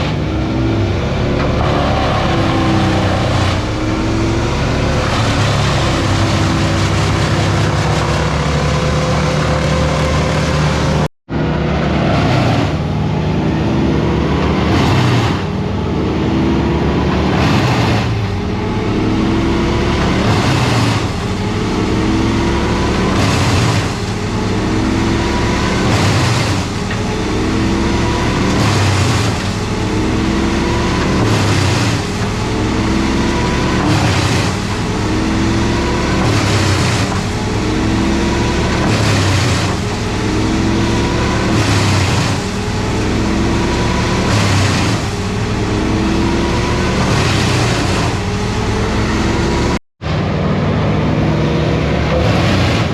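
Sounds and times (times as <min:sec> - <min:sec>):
heavy engine under load: 0:00.0 - 0:52.9.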